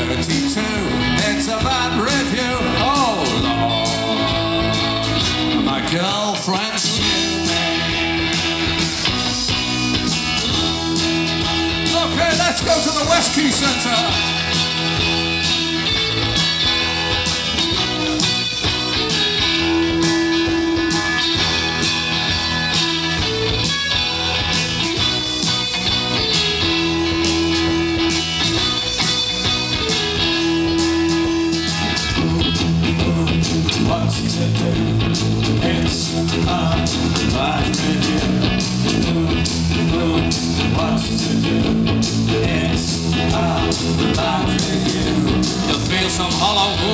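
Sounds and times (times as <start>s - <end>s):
bass guitar: 0.0s - 46.9s
electric guitar: 0.0s - 46.9s
steady drum beat: 0.0s - 46.9s.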